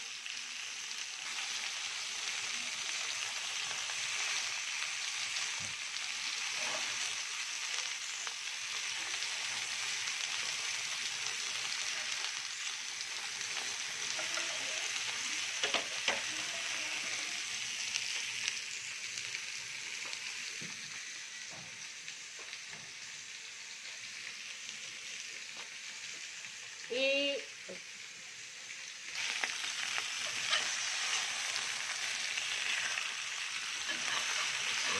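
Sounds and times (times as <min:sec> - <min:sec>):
meat sizzling in hot pan: 0:00.0 - 0:34.9.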